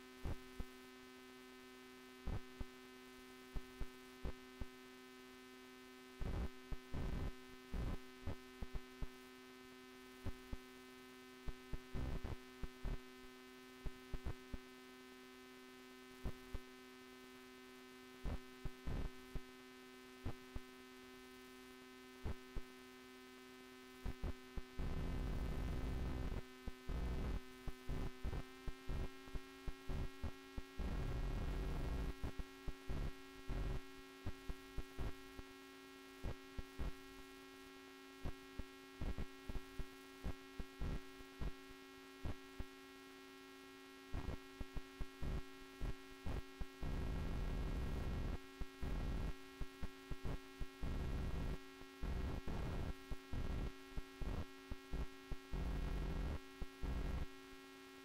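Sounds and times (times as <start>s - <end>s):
electrical hum: 2.2s - 9.4s, 10.0s - 57.8s.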